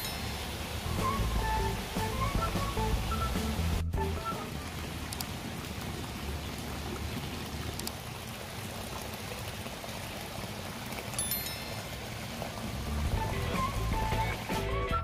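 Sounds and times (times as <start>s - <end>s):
waterfall splashing over stones: 0.0s - 14.7s.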